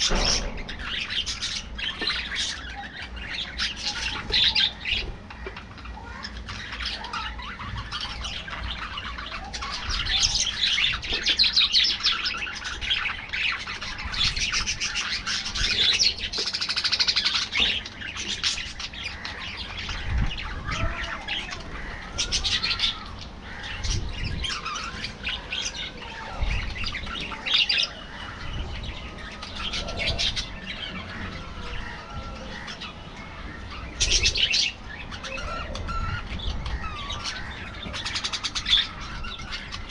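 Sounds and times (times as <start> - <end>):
budgerigars chirping: 0.0 - 39.9
harsh bird squawks: 0.0 - 39.9.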